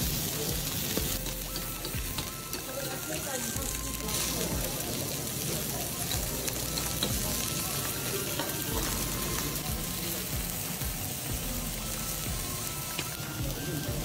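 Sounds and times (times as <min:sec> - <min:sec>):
meat sizzling on griddle: 0:00.0 - 0:14.0.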